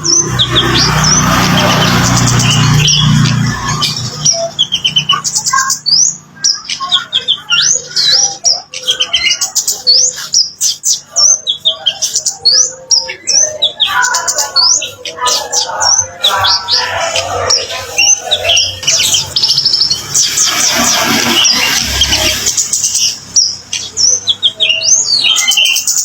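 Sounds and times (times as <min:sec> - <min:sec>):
bird chirping and whistling: 0:00.0 - 0:26.0.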